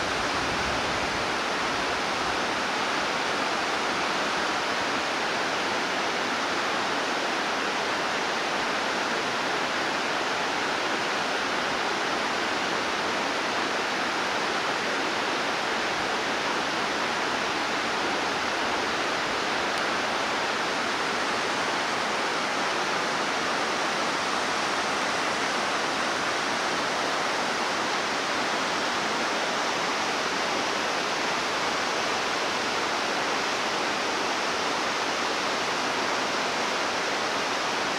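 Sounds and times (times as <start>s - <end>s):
mountain stream rushing: 0.0s - 37.9s.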